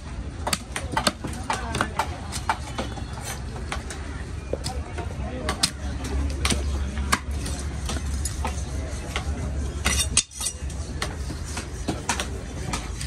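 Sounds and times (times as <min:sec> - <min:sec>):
market background noise: 0:00.0 - 0:13.0.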